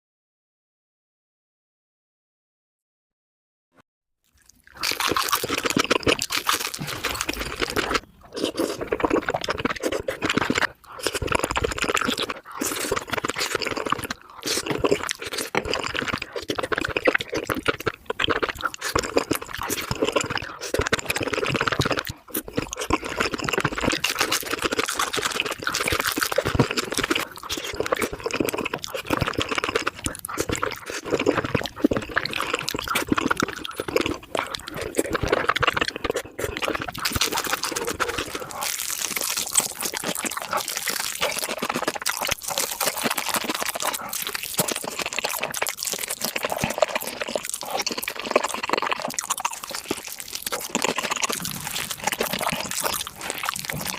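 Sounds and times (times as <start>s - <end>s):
sped-up chewing and crunching: 4.2s - 53.9s.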